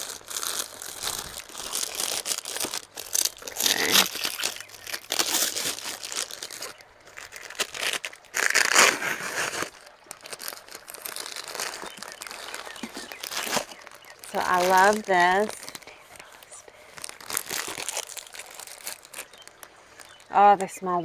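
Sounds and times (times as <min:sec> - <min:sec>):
plastic sleeves crinkling: 0:00.0 - 0:20.8.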